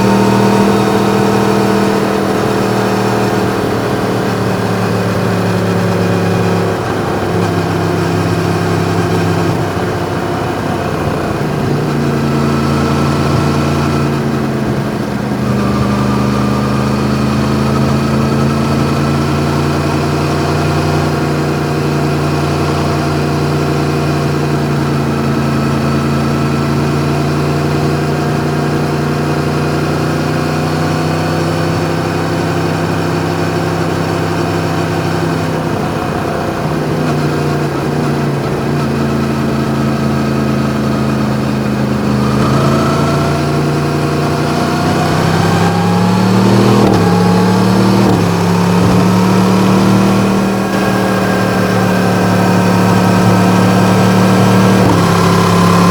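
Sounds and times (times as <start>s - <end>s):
motorcycle accelerating: 0.0s - 55.9s
motorcycle engine cruising: 0.0s - 55.9s.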